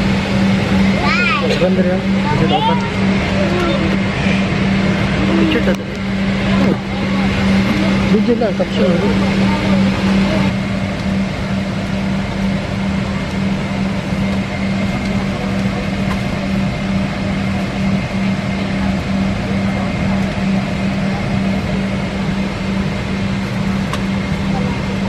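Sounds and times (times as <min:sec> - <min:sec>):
airliner cabin air rush: 0:00.0 - 0:25.0
constant low hum: 0:00.0 - 0:25.0
engine drone: 0:00.0 - 0:25.0.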